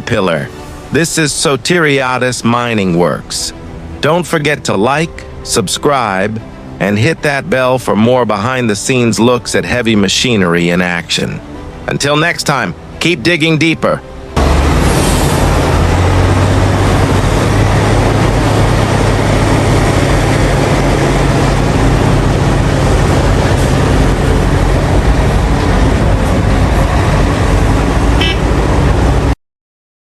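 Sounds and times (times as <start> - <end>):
diesel machinery engine drone: 0.0 - 29.4.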